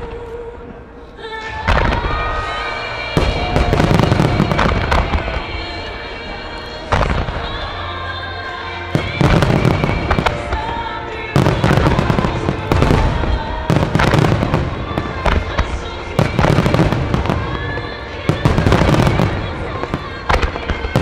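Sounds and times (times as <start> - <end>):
music: 0.0 - 21.0
fireworks crackling and booming: 1.4 - 8.0, 8.6 - 21.0.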